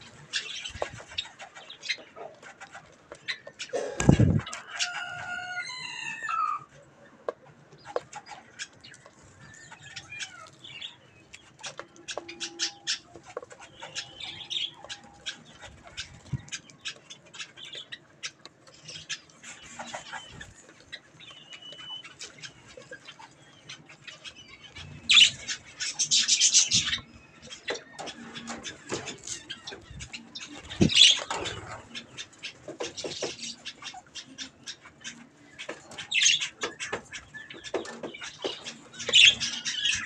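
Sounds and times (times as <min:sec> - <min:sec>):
budgerigars chirping: 0:00.0 - 0:06.6, 0:07.8 - 0:40.0.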